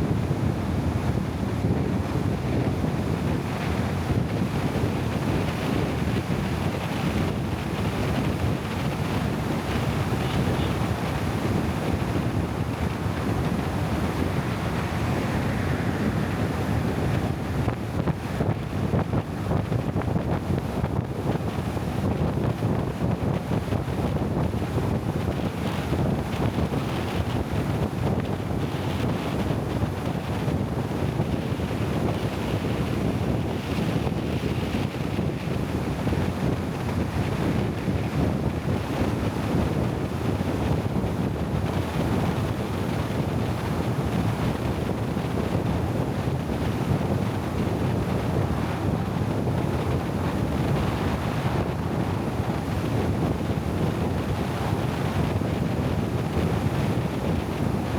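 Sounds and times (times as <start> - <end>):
wind against microphone: 0.0 - 57.9.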